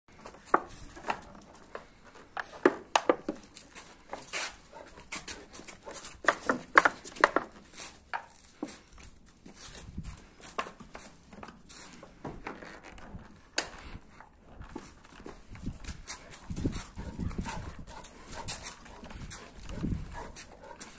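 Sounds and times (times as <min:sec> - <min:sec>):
paws clicking on brick paving: 0:00.1 - 0:20.9.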